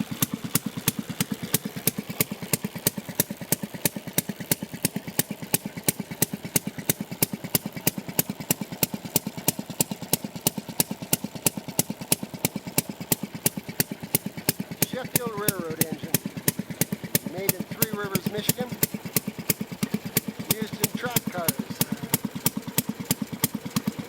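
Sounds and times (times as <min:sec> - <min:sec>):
two-stroke engine idling with exhaust pops: 0:00.0 - 0:24.0.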